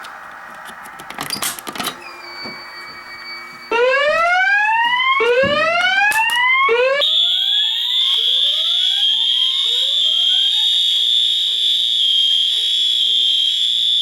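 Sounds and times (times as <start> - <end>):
steady high-pitched alarm tone: 2.1 - 14.0
rising whoop alarm tone: 2.4 - 14.0.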